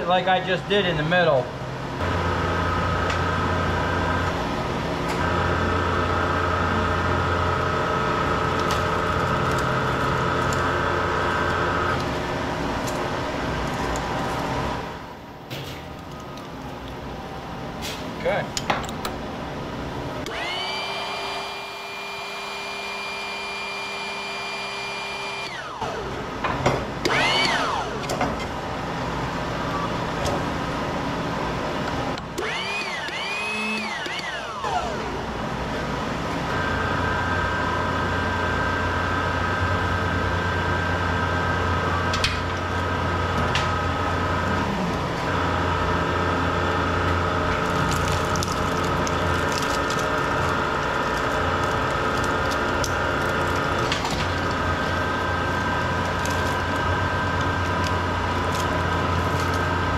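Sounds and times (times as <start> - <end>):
machine motor whine: 1.6 - 17.8, 18.9 - 59.9.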